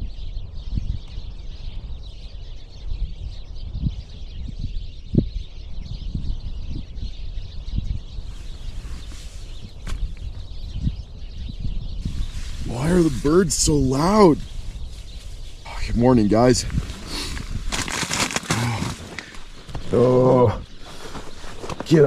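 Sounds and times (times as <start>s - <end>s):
birds chirping and chattering: 0.0s - 22.0s.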